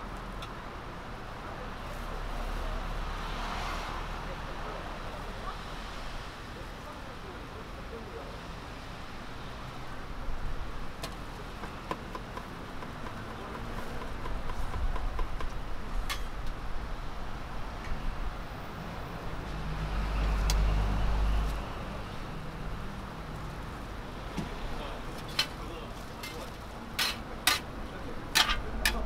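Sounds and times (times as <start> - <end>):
street traffic rumbling: 0.0 - 29.0.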